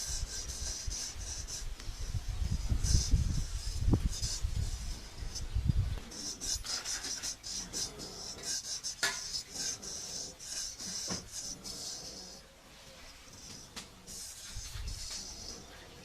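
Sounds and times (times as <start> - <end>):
razor scraping stubble: 0.0 - 12.4, 13.1 - 16.0.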